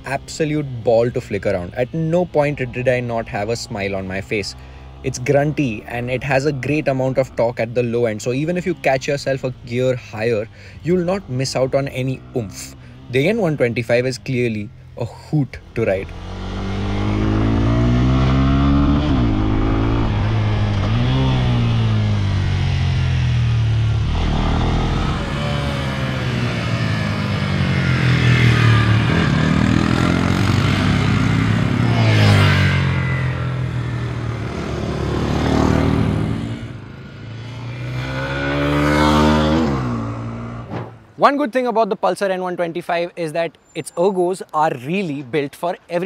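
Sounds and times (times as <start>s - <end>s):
motorcycle engine revving: 0.0s - 41.1s.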